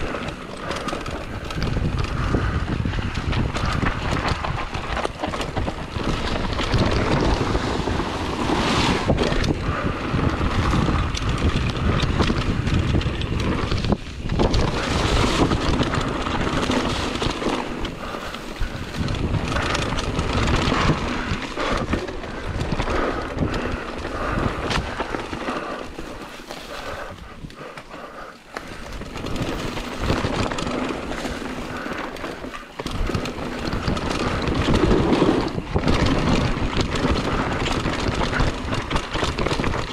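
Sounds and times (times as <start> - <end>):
bike rattling and knocking: 0.0 - 39.9
tyres rolling over gravel: 0.0 - 39.9
wind rushing over microphone: 0.0 - 39.9.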